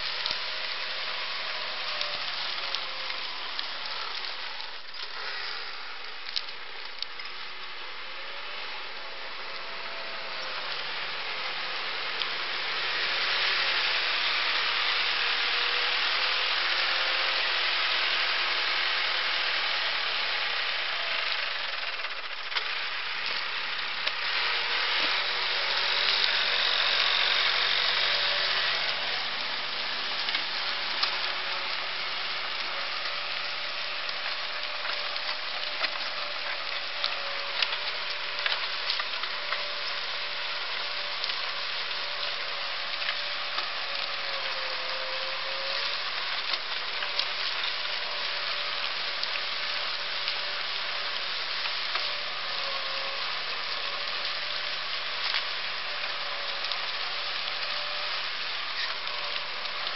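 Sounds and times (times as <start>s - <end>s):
dry stalks crackling: 0.0s - 59.9s
rushing hiss of turned soil: 0.0s - 59.9s
tractor diesel engine running: 0.0s - 59.9s.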